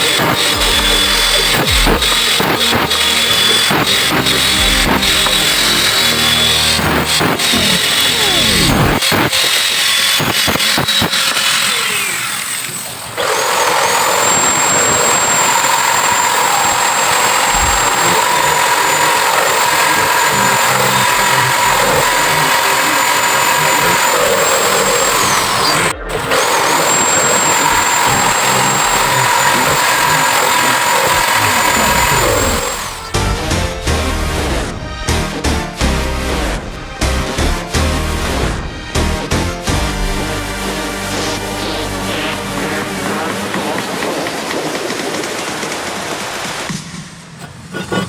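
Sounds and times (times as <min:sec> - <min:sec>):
broken-up sound: 0:00.0 - 0:11.1, 0:13.2 - 0:44.7
power tool whining: 0:00.0 - 0:46.7.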